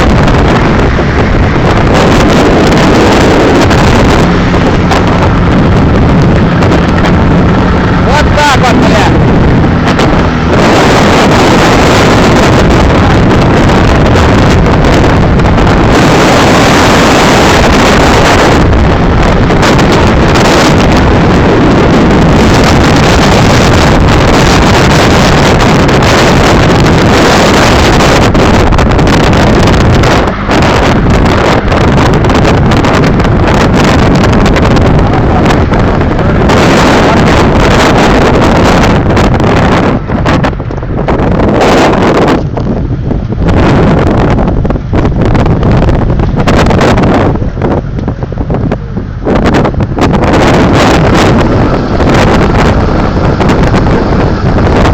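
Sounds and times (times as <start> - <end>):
strong wind buffeting microphone: 0.0 - 54.9.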